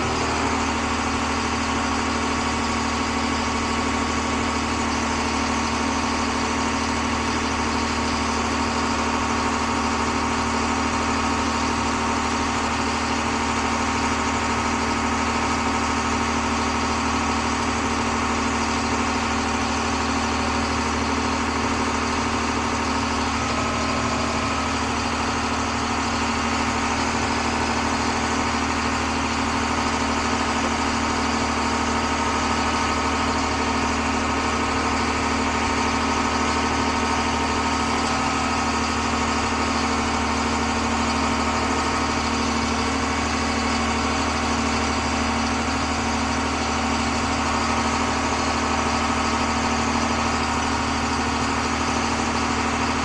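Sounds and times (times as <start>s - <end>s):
diesel engine droning with whine: 0.0s - 53.0s.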